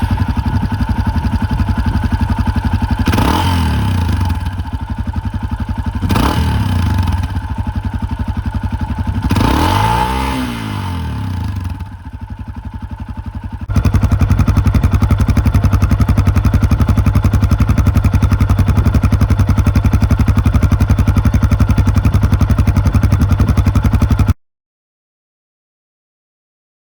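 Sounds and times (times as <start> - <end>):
motorcycle engine revving: 0.0 - 24.4.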